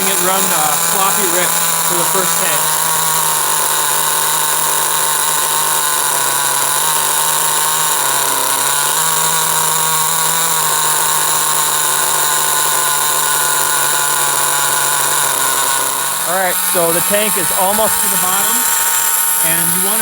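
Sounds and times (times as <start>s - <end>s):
nitro engine idling: 0.0s - 20.0s.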